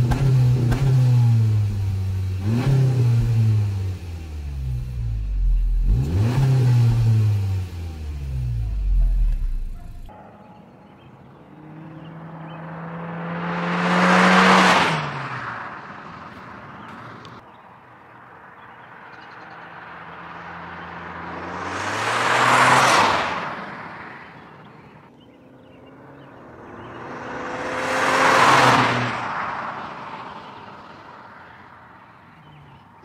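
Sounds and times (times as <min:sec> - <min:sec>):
car driving past: 0:02.4 - 0:10.1, 0:11.4 - 0:17.4, 0:18.5 - 0:32.0.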